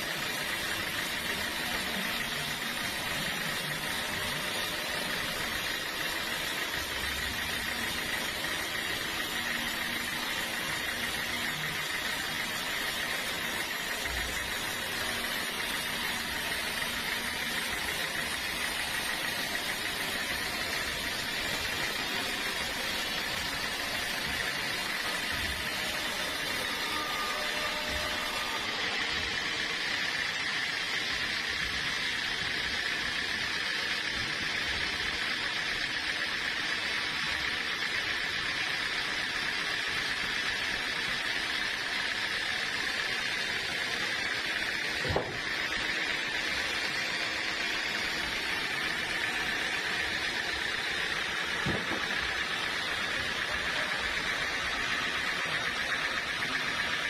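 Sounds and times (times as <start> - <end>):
sawmill machinery hissing: 0.0 - 57.0.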